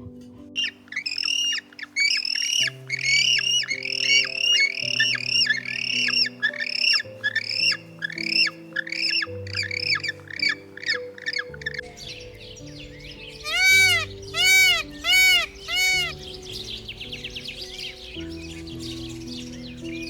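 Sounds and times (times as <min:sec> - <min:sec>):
background music: 0:00.0 - 0:20.0
bird squawking: 0:00.6 - 0:20.0.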